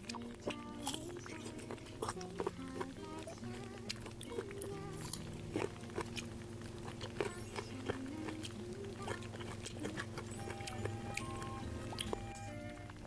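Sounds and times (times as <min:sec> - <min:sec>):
crunchy fruit chewing: 0:00.0 - 0:13.0
soft background music: 0:00.0 - 0:13.0.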